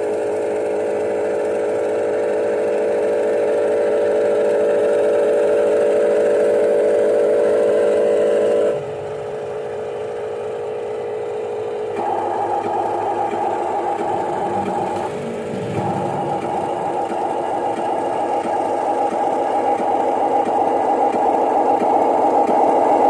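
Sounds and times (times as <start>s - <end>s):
electric motors whining: 1.0s - 23.0s.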